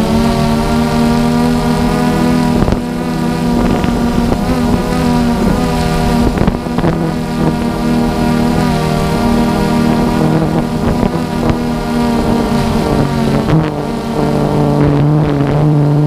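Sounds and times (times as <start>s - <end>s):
drone propellers humming: 0.0s - 16.0s
wind buffeting microphone: 0.0s - 16.0s.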